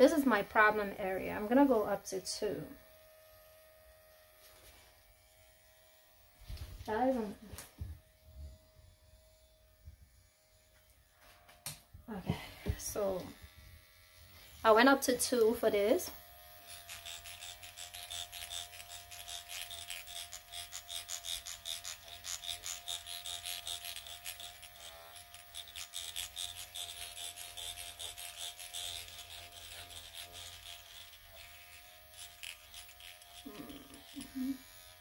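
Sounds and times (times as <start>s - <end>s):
electric pen humming: 0.0s - 35.0s.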